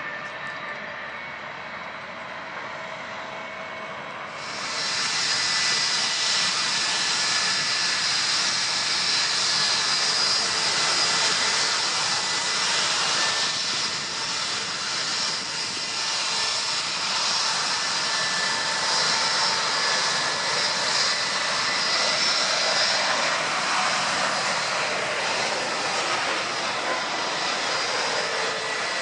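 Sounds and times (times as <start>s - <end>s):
faint jet engine noise: 0.0s - 29.0s
jet engines rushing with high whine: 0.0s - 29.0s.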